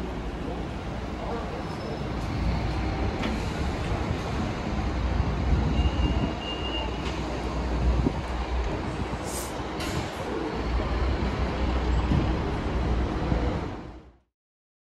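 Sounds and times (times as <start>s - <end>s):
train running with low rumble: 0.0s - 14.3s.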